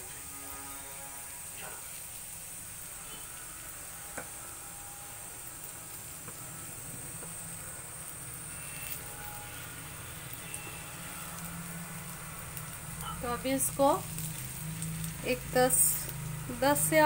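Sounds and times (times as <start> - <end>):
potatoes sizzling in oil: 0.0 - 17.0.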